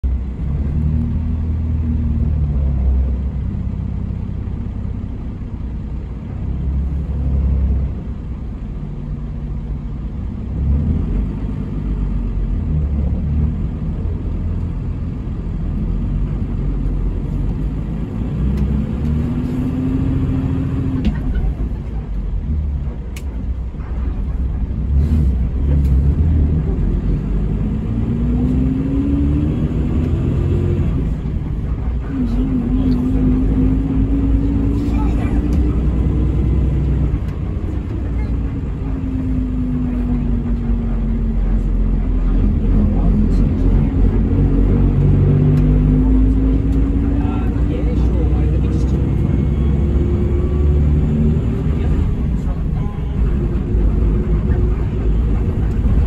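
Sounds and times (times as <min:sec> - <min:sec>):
bus engine rumble: 0:00.0 - 0:56.0
road noise: 0:00.0 - 0:56.0.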